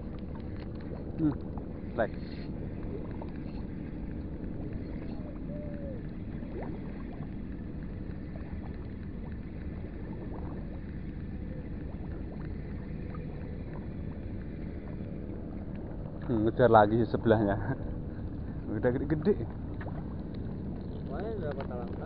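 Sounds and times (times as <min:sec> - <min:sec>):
water noise: 0:00.0 - 0:22.0
wind rumble: 0:00.0 - 0:22.0.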